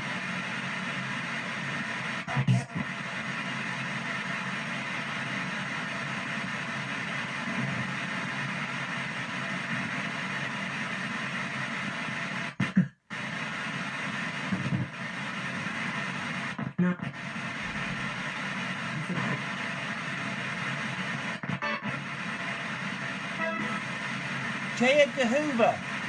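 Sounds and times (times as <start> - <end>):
radio static rush: 0.6 - 26.0.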